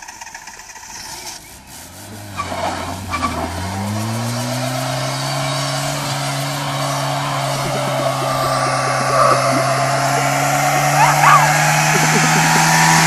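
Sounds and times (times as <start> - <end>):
tyres squealing on wet asphalt: 0.4 - 13.0
car engine revving: 1.0 - 13.0.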